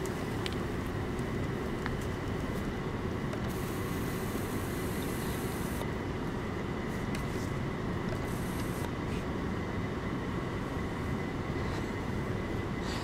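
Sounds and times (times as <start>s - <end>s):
low ventilation rumble: 0.0s - 13.0s.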